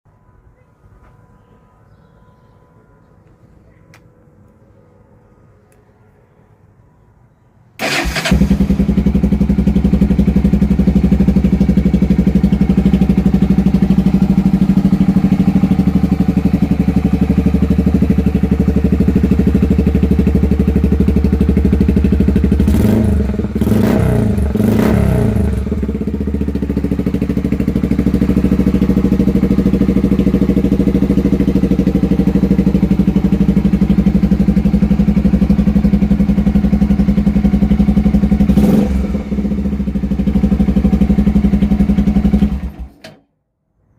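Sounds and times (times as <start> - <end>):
motorcycle engine idling and revving: 7.8 - 43.0.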